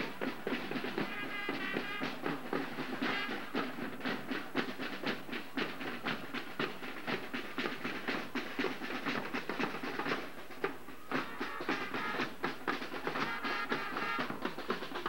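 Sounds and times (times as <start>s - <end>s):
marching drum line: 0.0s - 15.0s.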